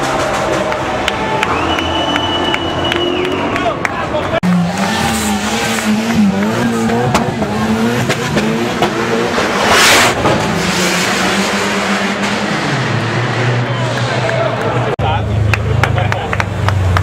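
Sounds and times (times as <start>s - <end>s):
car engines revving in tunnel: 0.0s - 17.0s.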